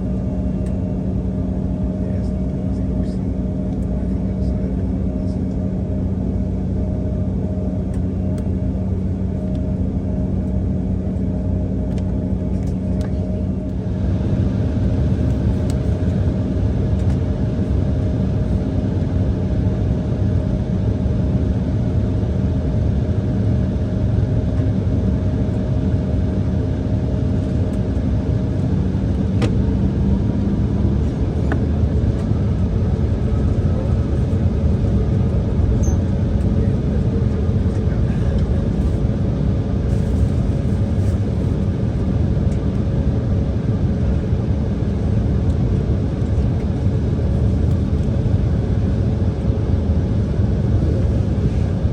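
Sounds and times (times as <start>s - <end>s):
jet cabin rumble and hum: 0.0s - 51.9s.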